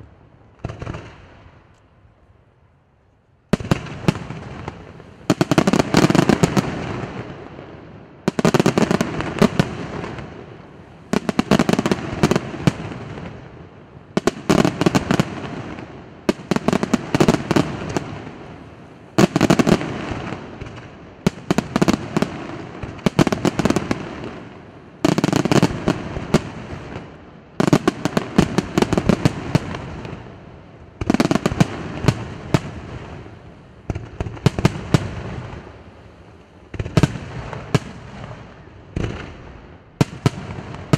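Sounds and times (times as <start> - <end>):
fireworks bursting: 0.0 - 1.7, 3.5 - 40.9
fireworks crackling: 3.5 - 40.9.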